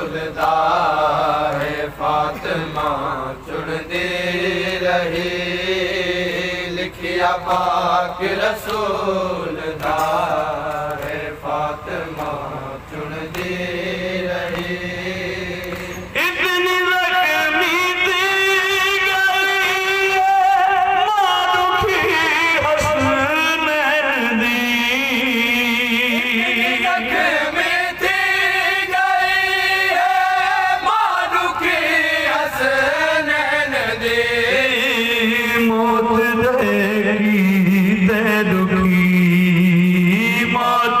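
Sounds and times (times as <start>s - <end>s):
man chanting through loudspeakers: 0.0s - 41.0s.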